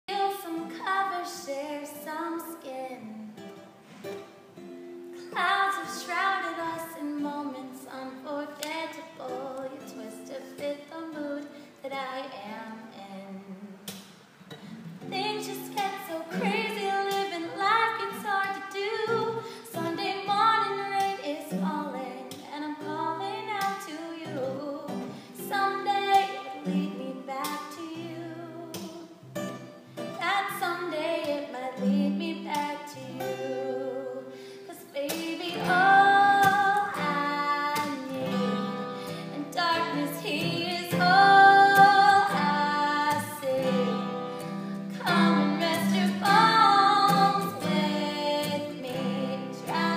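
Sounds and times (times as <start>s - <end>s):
woman singing: 0.0s - 3.7s, 5.2s - 14.0s, 15.0s - 29.2s, 30.0s - 49.9s.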